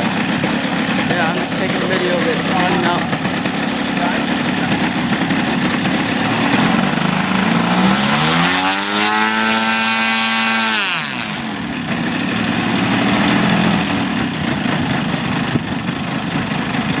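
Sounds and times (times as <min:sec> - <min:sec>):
model airplane engine revving: 0:00.0 - 0:17.0.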